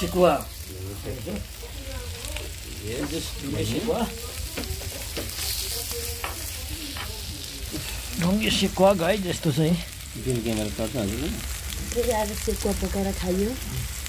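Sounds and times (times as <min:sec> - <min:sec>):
fire crackling: 0:00.0 - 0:14.0
meat sizzling on hot stone: 0:00.0 - 0:14.0.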